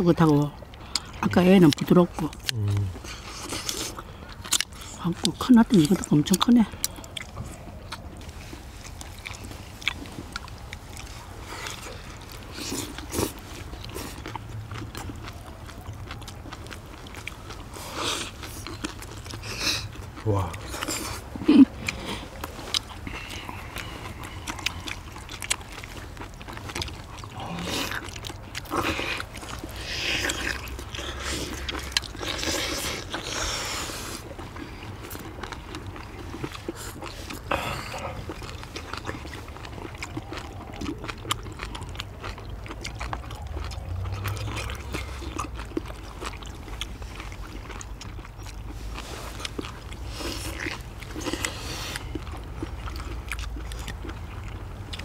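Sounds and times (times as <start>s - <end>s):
chewing and slurping: 0.0s - 55.0s
low steady rumble: 0.0s - 55.0s.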